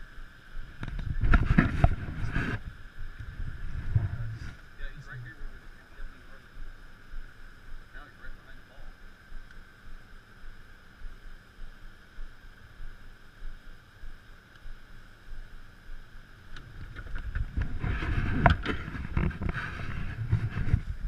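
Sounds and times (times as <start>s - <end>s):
boat engine low rumble: 0.0s - 21.0s
faint steady hum: 0.0s - 21.0s.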